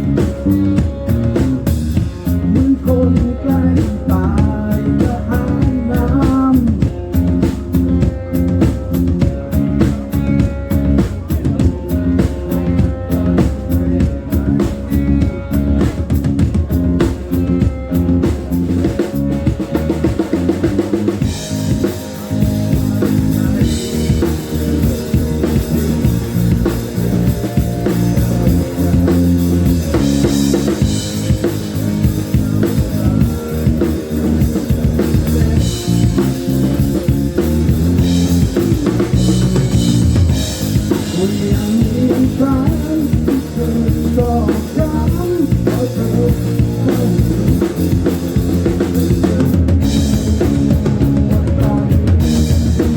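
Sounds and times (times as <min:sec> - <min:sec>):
loud rock music: 0:00.0 - 0:52.9
pitch-bending lead melody: 0:00.0 - 0:52.9.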